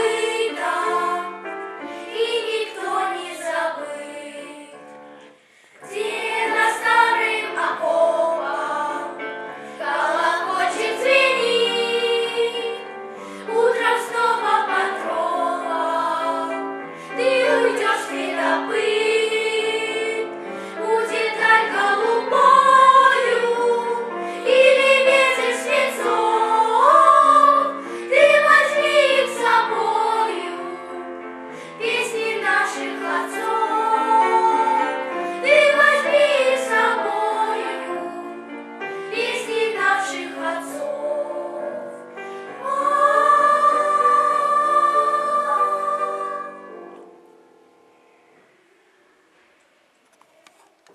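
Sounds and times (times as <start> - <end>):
choir of high voices singing: 0.0 - 47.1.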